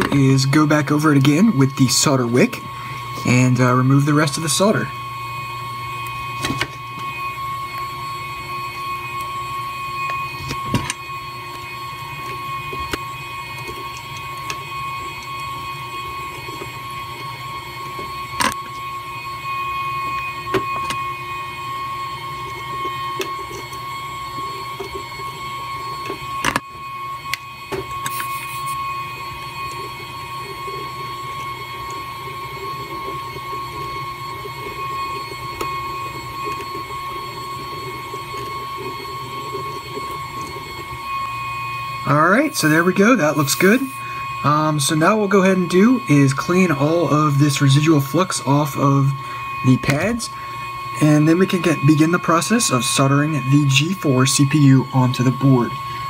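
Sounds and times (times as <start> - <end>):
low hum: 0.0 - 56.0
small electric motor whining: 0.0 - 56.0.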